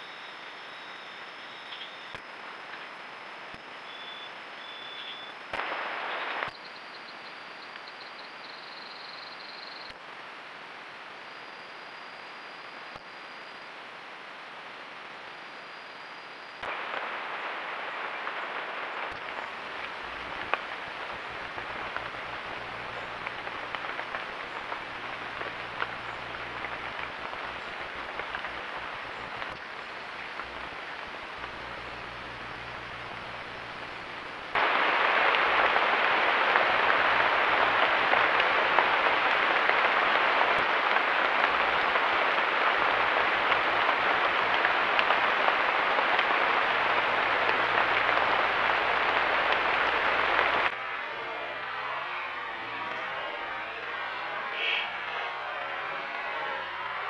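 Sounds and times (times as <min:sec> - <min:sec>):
noisy hiss with crackles: 0:00.0 - 0:57.0.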